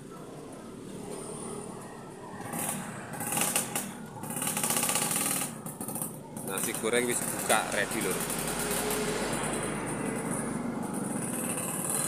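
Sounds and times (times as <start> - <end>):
motorcycle engines buzzing past: 0.0 - 12.0
road traffic: 0.0 - 12.0.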